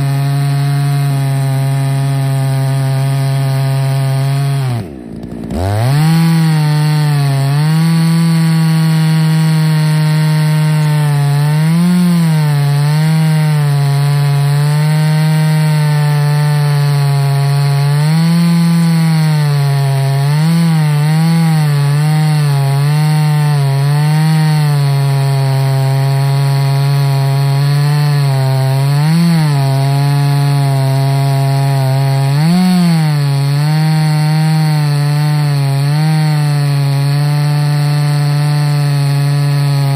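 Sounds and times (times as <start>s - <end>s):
chainsaw cutting log at full throttle: 0.0s - 39.9s.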